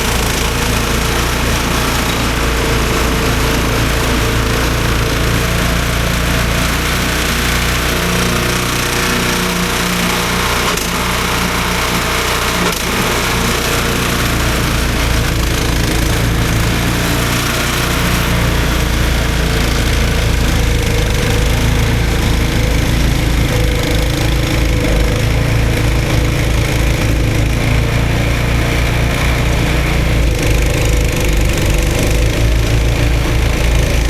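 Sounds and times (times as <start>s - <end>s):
snowblower engine running: 0.0s - 34.0s.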